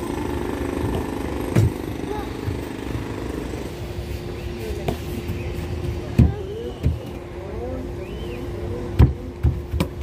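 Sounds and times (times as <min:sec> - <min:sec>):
faint voices: 0:00.0 - 0:09.9
steady hum: 0:00.0 - 0:10.0.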